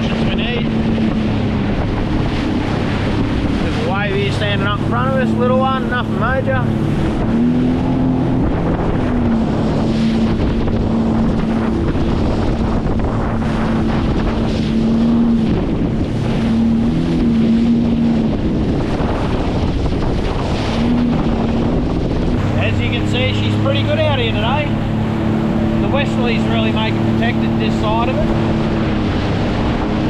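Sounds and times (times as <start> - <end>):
jet ski engine running: 0.0 - 30.0
wind buffeting microphone: 0.0 - 30.0.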